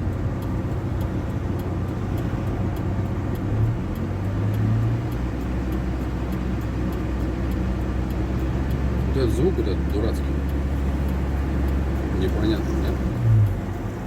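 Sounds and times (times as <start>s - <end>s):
faint light ticking: 0.0s - 14.0s
road noise: 0.0s - 14.0s
van engine running: 0.0s - 14.0s.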